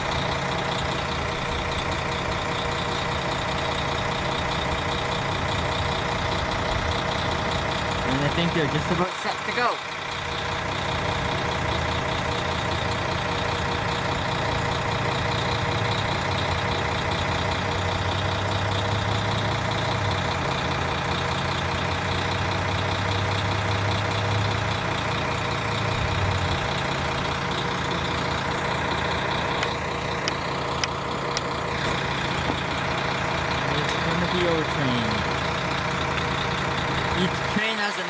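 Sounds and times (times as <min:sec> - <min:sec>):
diesel railcar engine idling: 0:00.0 - 0:38.0.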